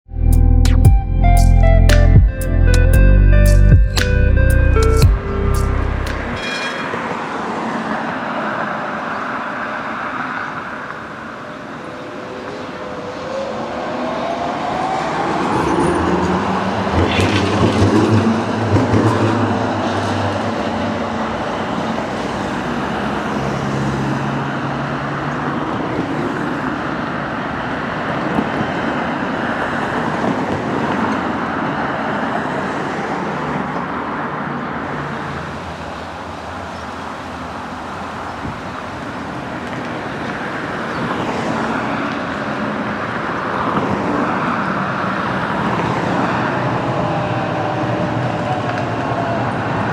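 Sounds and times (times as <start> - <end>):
road traffic: 0.1 - 49.9.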